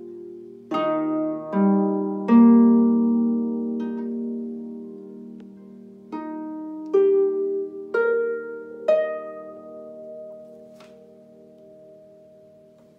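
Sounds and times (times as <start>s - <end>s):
harp chord and plucked notes: 0.0s - 12.9s.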